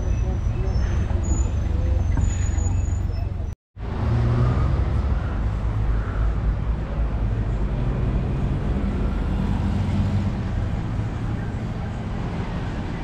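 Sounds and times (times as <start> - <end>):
street noise: 0.0 - 13.0
vehicle engines humming: 0.0 - 13.0.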